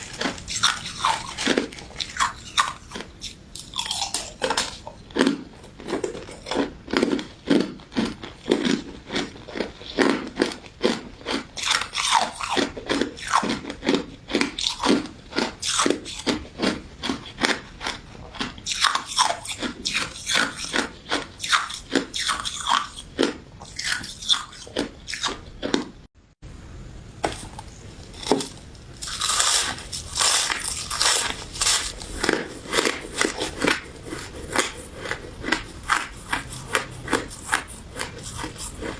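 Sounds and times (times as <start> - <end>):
crunching bites and chewing: 0.0 - 26.0, 27.3 - 38.9.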